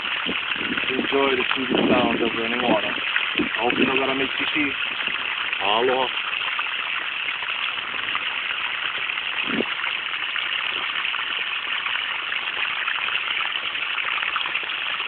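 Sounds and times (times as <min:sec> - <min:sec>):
water gushing from garden hose: 0:00.0 - 0:15.0.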